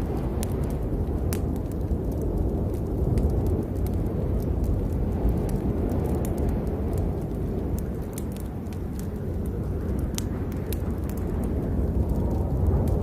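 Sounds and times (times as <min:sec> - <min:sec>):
rain: 0:00.0 - 0:13.0
raindrops ticking: 0:00.0 - 0:13.0.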